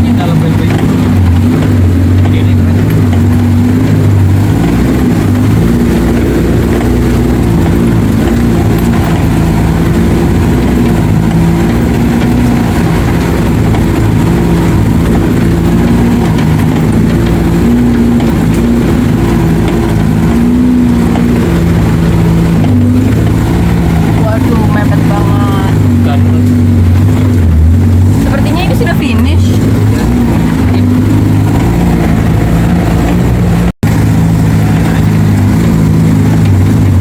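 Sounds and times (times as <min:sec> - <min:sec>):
car engine droning: 0:00.0 - 0:37.0.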